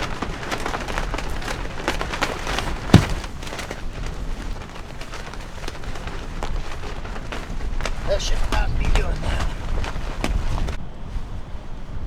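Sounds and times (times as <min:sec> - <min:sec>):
fabric flapping and snapping: 0:00.0 - 0:10.8
wind rumbling on microphone: 0:00.0 - 0:12.0.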